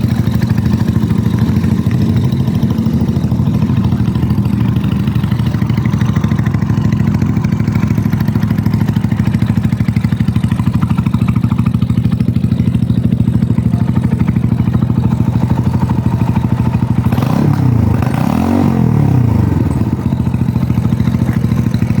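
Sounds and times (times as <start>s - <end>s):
motorcycle engine idling: 0.0s - 22.0s
motorcycle throttle blips: 0.0s - 22.0s.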